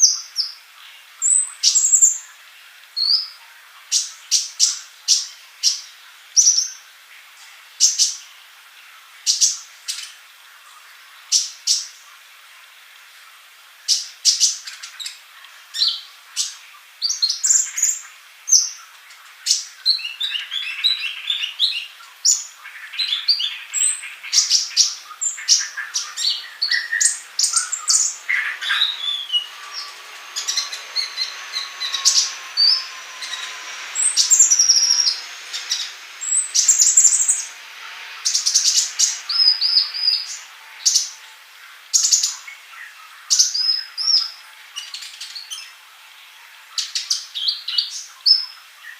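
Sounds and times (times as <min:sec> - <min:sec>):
sunbird singing high chirps: 0:00.0 - 0:07.0, 0:07.7 - 0:08.4, 0:09.2 - 0:12.1, 0:13.8 - 0:48.9.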